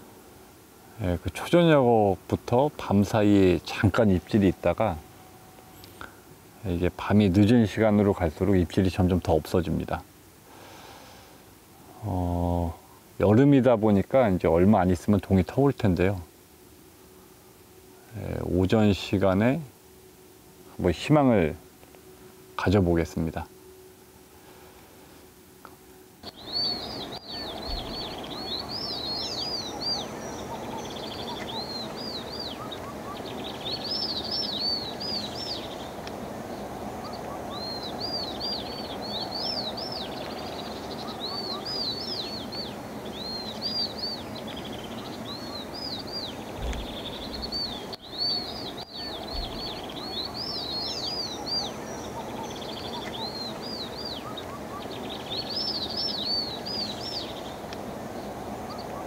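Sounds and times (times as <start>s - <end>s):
birds chirping: 0.0s - 25.0s, 25.7s - 59.0s
steady background noise: 0.0s - 59.0s.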